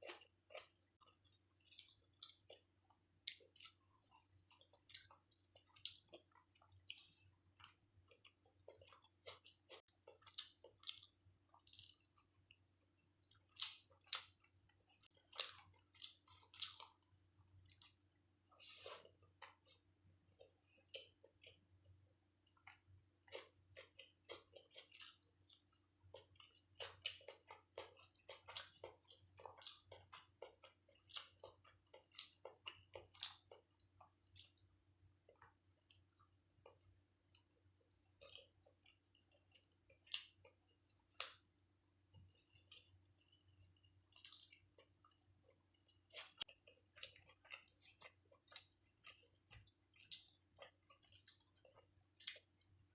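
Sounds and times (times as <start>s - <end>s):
wet chewing and mouth smacking: 0.0s - 18.0s, 18.6s - 52.9s.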